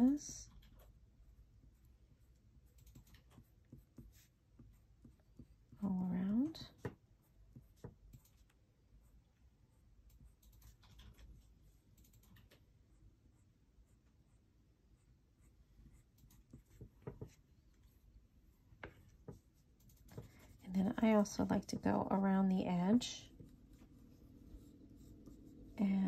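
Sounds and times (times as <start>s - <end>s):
pencil scratching on paper: 0.1s - 10.8s, 13.0s - 22.0s, 23.1s - 26.0s.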